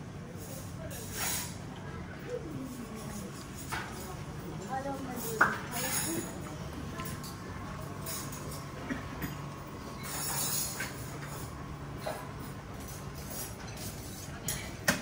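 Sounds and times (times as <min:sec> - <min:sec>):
low ventilation hum: 0:00.0 - 0:15.0.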